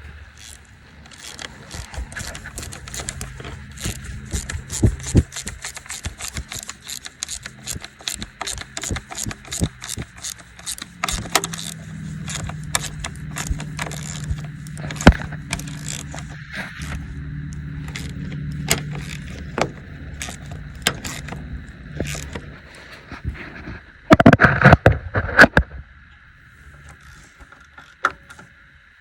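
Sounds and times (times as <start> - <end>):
metallic rattling and clicking: 0.0 - 23.0, 26.7 - 28.7
diesel engine humming: 0.0 - 23.6.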